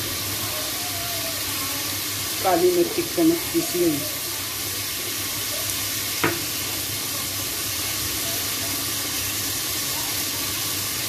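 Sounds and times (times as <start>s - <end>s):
chicken frying in oil: 0.0s - 11.0s.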